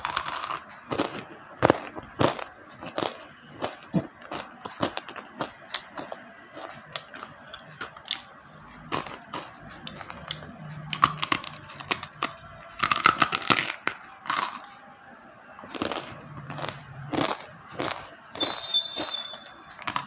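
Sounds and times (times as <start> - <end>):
slate pencils crunching: 0.0 - 8.3, 8.9 - 14.8, 15.6 - 20.0.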